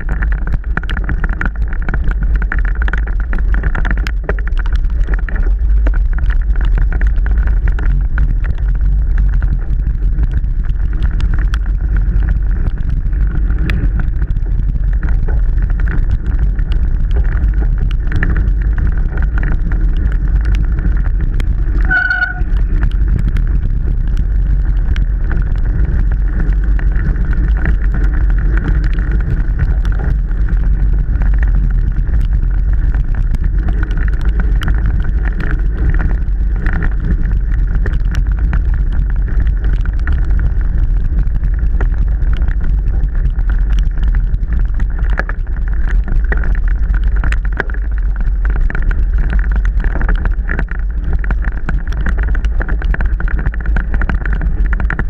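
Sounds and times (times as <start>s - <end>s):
bike rattling and clicking: 0.0s - 55.0s
wind rumble on microphone: 0.0s - 55.0s.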